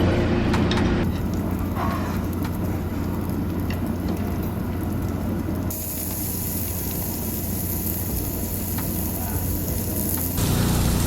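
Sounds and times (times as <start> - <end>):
low hum: 0.0 - 11.0
meat sizzling on a grill: 1.1 - 11.0.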